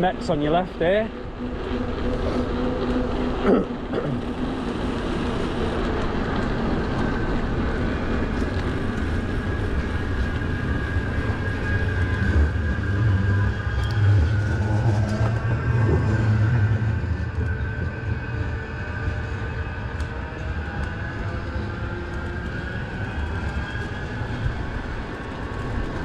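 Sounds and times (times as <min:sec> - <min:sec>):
city traffic noise: 0:00.0 - 0:26.0.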